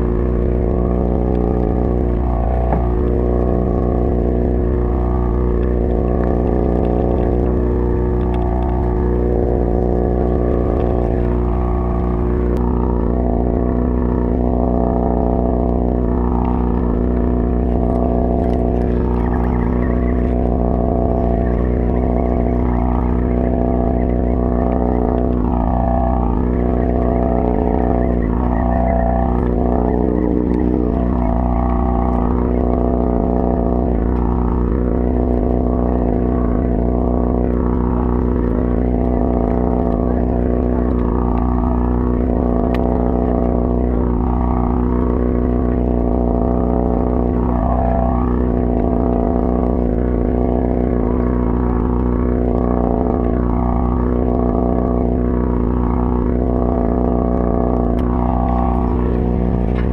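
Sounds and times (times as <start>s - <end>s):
boat engine drone: 0.0s - 59.9s.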